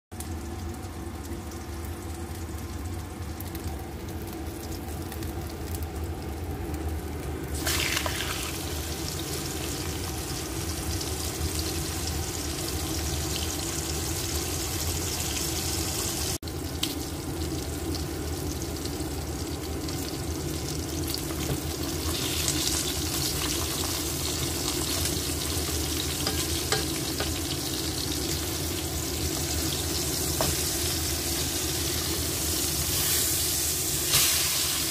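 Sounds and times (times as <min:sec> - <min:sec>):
meat sizzling in a pan: 0:00.2 - 0:34.9.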